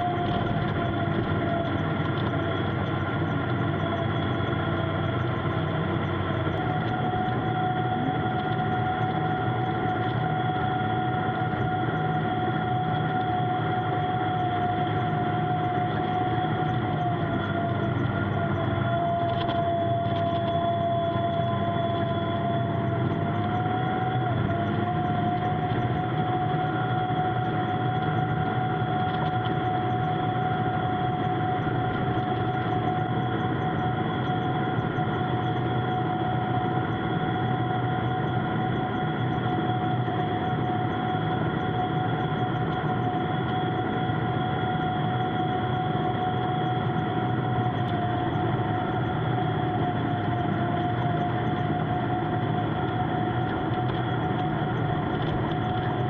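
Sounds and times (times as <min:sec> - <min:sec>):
steady whine: 0:00.0 - 0:56.0
tractor engine running: 0:00.0 - 0:56.0.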